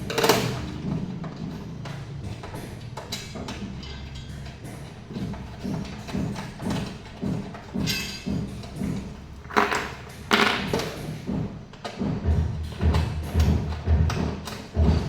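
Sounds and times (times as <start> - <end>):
music with thumping beat: 0.0 - 15.0.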